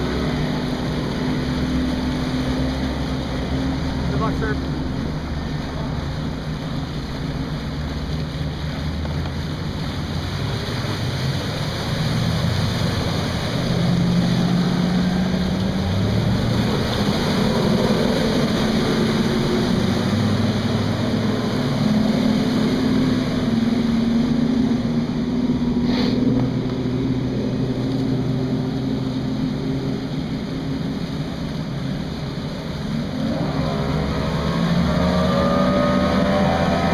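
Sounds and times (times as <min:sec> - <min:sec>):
outboard motors running: 0:00.0 - 0:36.9
splashing wake: 0:00.0 - 0:36.9
wind: 0:00.0 - 0:36.9.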